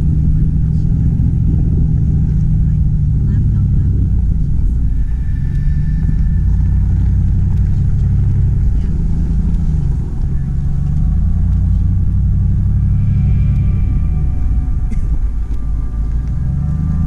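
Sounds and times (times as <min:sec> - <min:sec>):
pickup truck engine rumble: 0:00.0 - 0:17.0.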